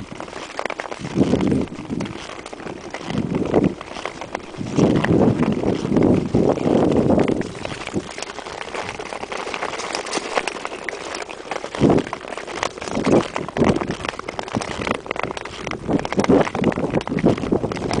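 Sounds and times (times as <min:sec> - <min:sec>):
ice skates scraping on ice: 0:00.0 - 0:18.0.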